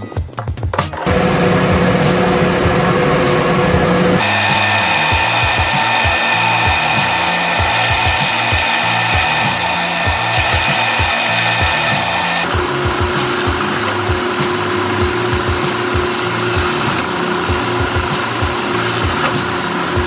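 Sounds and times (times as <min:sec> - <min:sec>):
background music: 0:00.0 - 0:20.0
electric power tool whining: 0:01.0 - 0:20.0.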